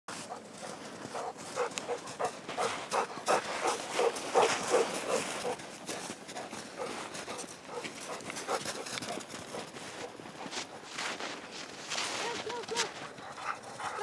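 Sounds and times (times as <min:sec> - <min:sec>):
crunching in snow: 0:00.1 - 0:14.0
dog panting: 0:00.2 - 0:14.0.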